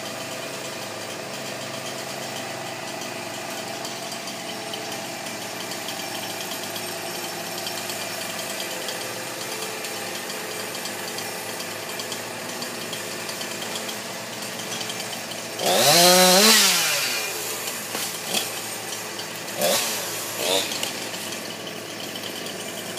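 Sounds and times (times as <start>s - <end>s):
chainsaw idling and revving: 0.0s - 22.9s.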